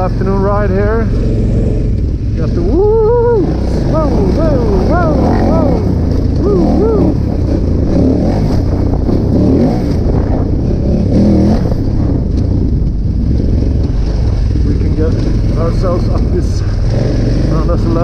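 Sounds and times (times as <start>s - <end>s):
motorcycle engine running: 0.0s - 18.0s
wind rush over microphone: 0.0s - 18.0s.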